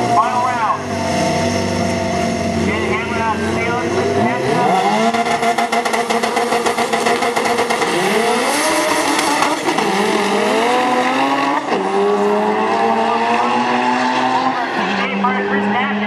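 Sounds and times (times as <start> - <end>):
drag cars accelerating: 0.0 - 16.0.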